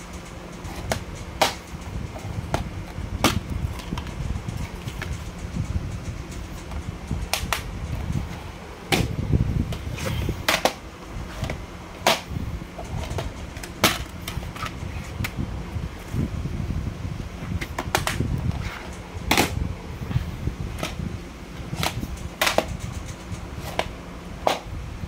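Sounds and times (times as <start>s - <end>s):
rubbing and handling noise: 0.0s - 24.8s.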